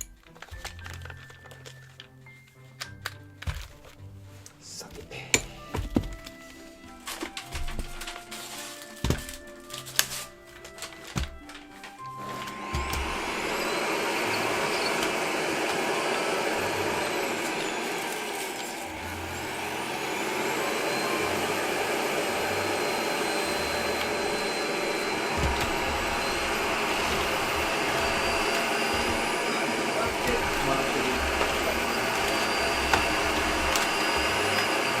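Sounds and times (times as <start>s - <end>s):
vacuum cleaner running: 4.8s - 35.0s.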